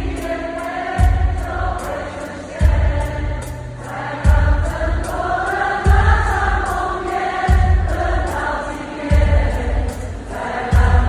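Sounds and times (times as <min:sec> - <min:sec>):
crowd singing along: 0:00.0 - 0:11.0.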